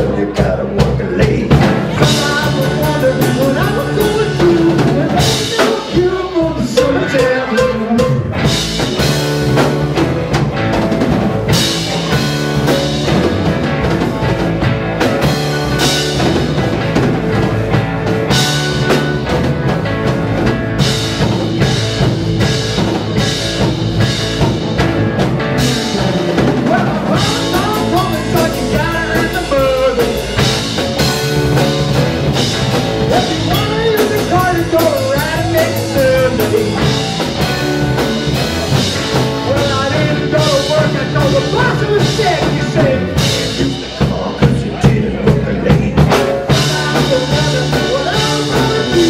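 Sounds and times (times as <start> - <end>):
live rock band playing: 0.0 - 49.0
electric guitar lead with bends: 1.6 - 44.2.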